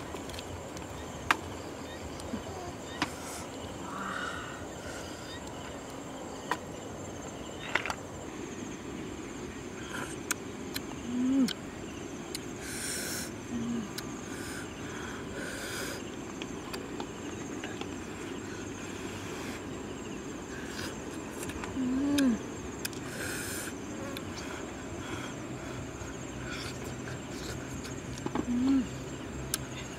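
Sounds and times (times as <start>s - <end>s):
high insect drone: 0.0s - 29.9s.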